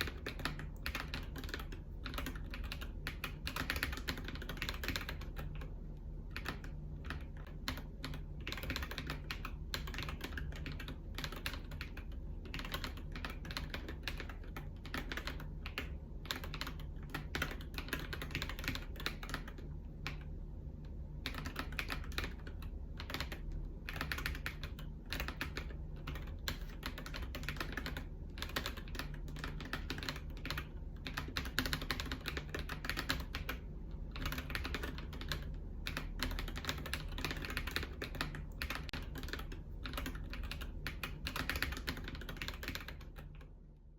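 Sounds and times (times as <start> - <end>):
mechanical keyboard typing: 0.0 - 43.6.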